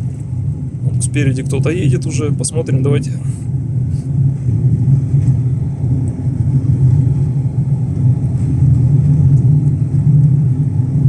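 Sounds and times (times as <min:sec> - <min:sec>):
car engine in cabin: 0:00.0 - 0:11.0.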